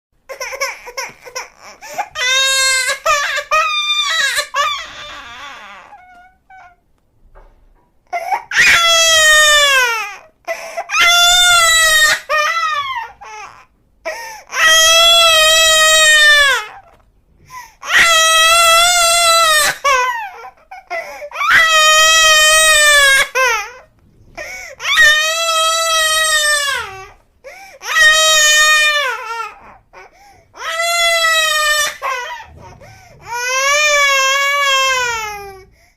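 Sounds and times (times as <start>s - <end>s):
baby crying: 0.3s - 6.8s, 8.1s - 17.0s, 17.8s - 35.7s.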